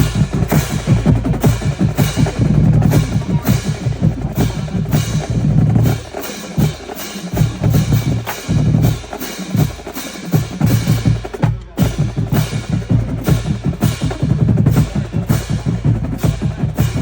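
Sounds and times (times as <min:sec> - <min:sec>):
fast snare drum strokes: 0:00.0 - 0:17.0
heavy bass drum hits: 0:00.0 - 0:17.0.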